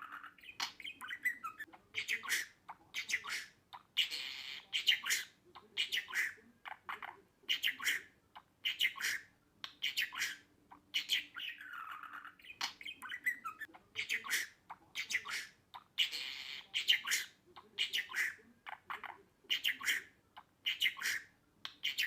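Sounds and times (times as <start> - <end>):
budgerigar chirping: 0.0 - 22.0.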